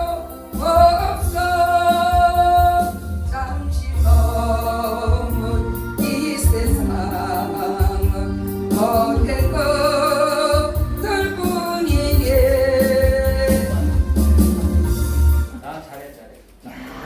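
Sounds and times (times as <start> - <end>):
person singing with vibrato: 0.0 - 14.4.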